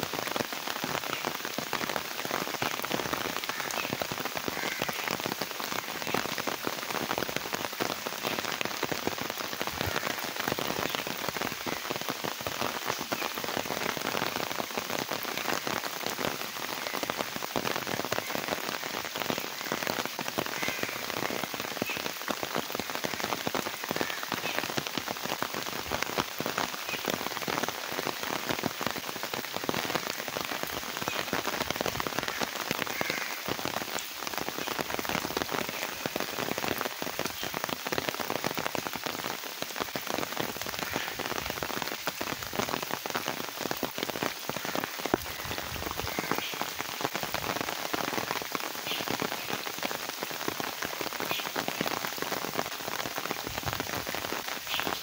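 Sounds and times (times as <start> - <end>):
rain splashing on puddles: 0.0 - 55.0.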